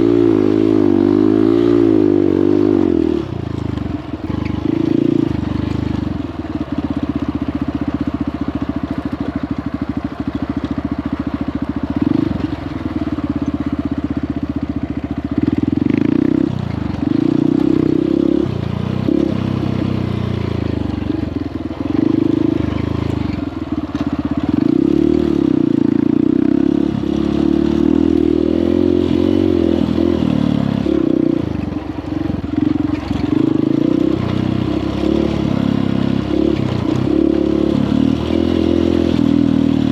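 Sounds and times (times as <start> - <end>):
dirt bike engine revving: 0.0 - 6.3, 11.8 - 13.3, 15.2 - 39.9.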